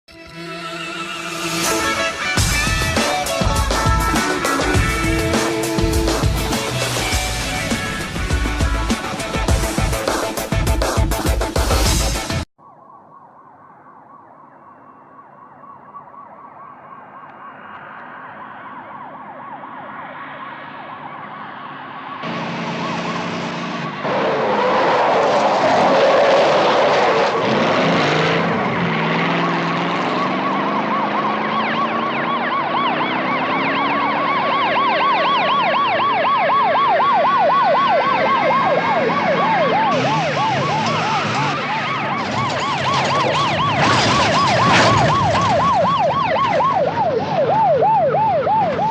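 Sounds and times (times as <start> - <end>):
police sirens warbling: 0.2 - 48.9
car engines revving: 0.3 - 10.5, 19.7 - 48.9.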